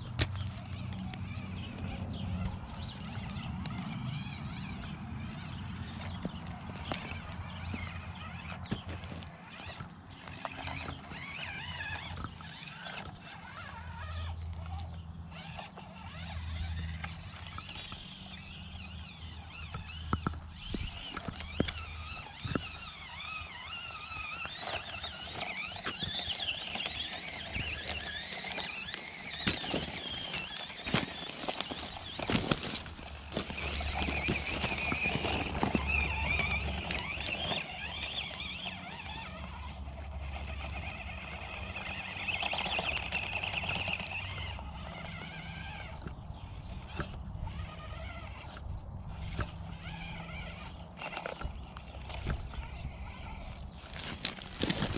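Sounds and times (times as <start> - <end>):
small motor and gears whining: 0.0 - 54.9.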